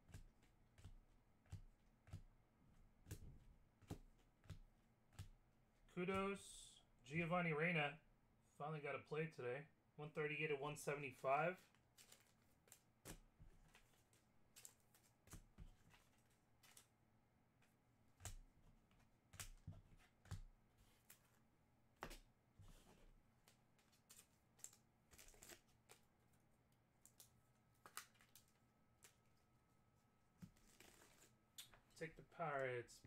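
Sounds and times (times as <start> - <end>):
low room hum: 0.1 - 33.0.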